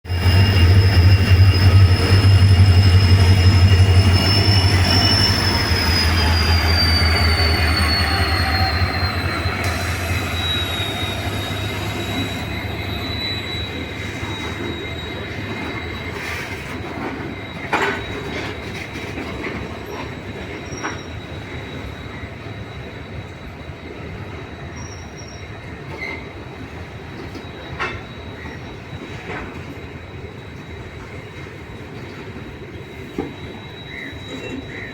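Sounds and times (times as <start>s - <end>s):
train rumbling on rails: 0.0s - 34.9s
high wheel squeal: 0.1s - 34.9s.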